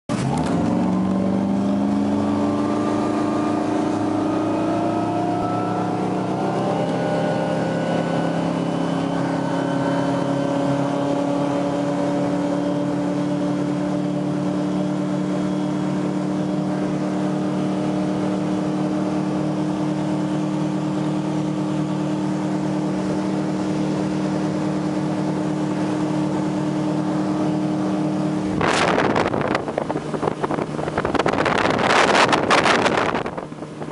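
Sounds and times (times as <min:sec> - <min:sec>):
boat engine accelerating: 0:00.1 - 0:33.9.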